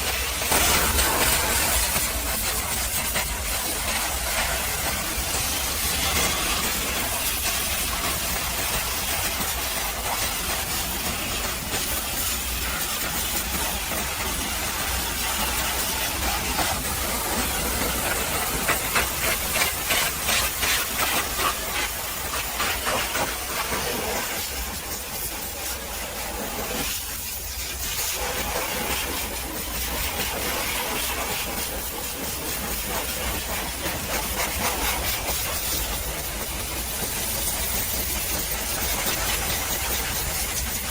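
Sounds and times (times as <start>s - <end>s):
pressure washer jet hissing: 0.0s - 40.9s.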